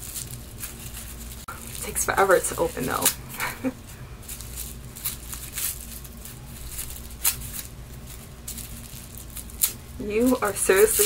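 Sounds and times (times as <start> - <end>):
gift wrapping tearing: 0.0 - 11.0.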